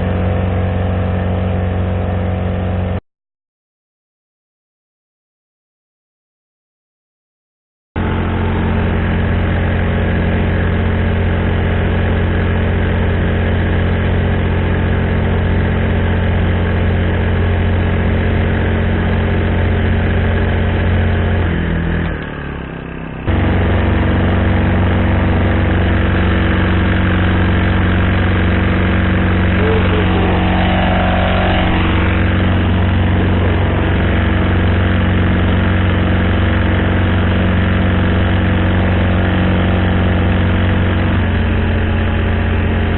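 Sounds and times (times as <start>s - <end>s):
small four-stroke engine running: 0.0s - 3.0s, 8.0s - 42.9s.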